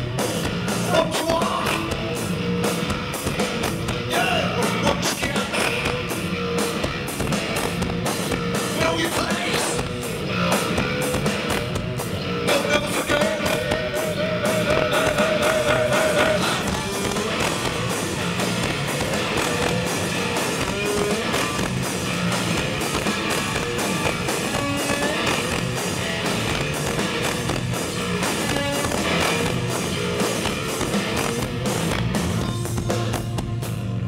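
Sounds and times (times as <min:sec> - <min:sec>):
drums: 0:00.0 - 0:34.0
electric guitar: 0:00.0 - 0:34.0.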